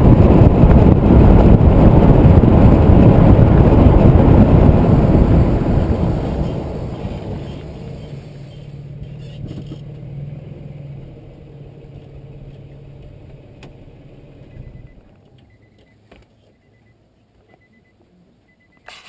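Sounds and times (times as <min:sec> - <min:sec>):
car engine running low speed: 0:00.0 - 0:19.0.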